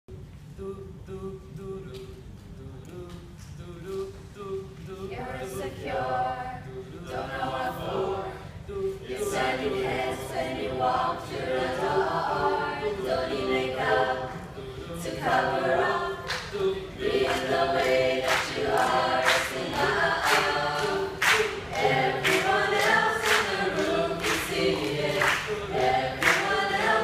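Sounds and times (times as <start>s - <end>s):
a cappella group singing: 0.1s - 27.0s.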